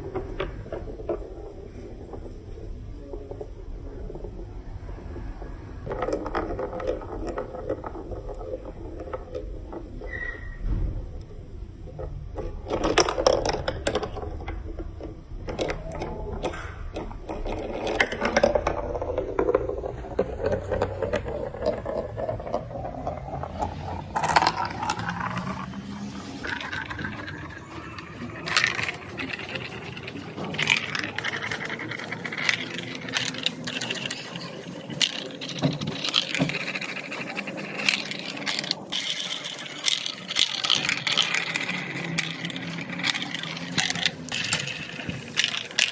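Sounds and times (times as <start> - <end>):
marbles clattering on plastic track: 0.0 - 5.1, 5.8 - 45.9.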